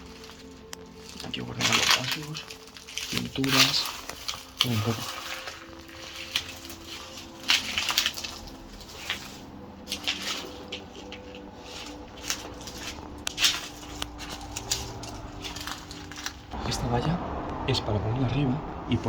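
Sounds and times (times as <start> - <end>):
crunches and knocks of people moving: 0.0 - 16.6.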